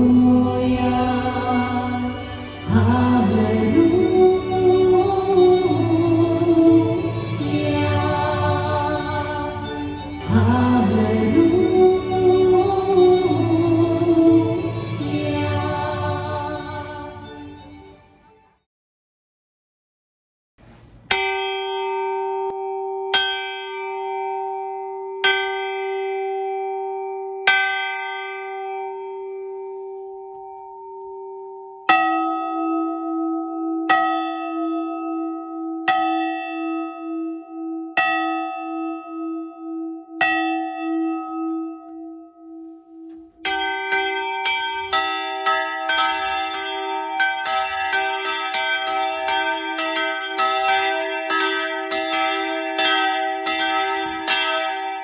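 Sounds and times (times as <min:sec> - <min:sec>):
church bells ringing: 0:00.0 - 0:18.4, 0:21.1 - 0:55.0.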